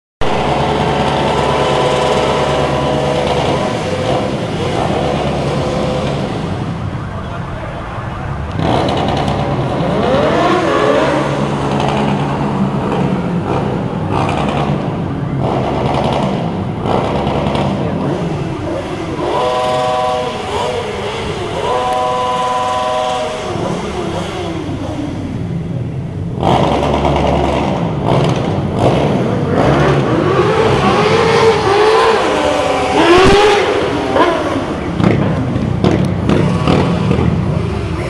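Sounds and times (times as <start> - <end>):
motorcycle engines revving: 0.2 - 38.0.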